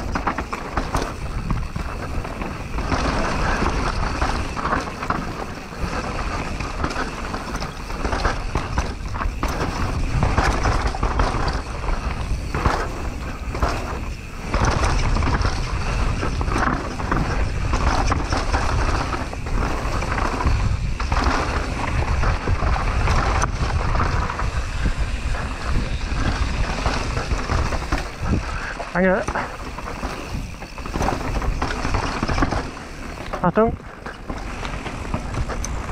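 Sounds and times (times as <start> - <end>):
bike rattling and knocking: 0.0 - 35.9
bike tyres rolling over ground: 0.0 - 35.9
wind rush on microphone: 0.0 - 35.9.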